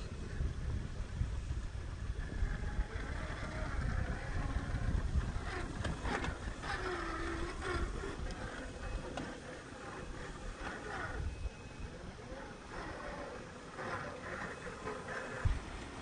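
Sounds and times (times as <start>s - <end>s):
electric motor whining: 0.0s - 15.9s.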